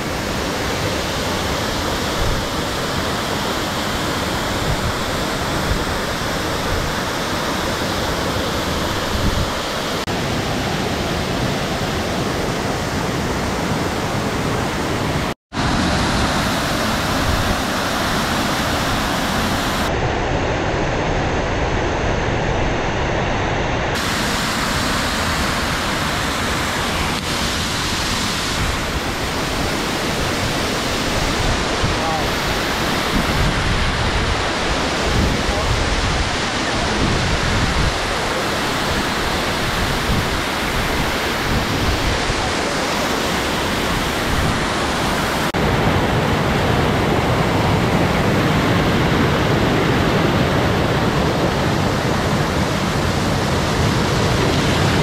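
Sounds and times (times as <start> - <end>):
waterfall rushing: 0.0 - 20.0, 23.9 - 55.0.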